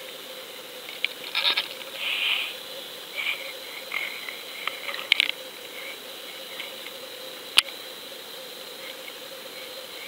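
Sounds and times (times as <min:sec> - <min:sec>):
constant high whine: 0:00.0 - 0:10.0
steady hiss: 0:00.0 - 0:10.0.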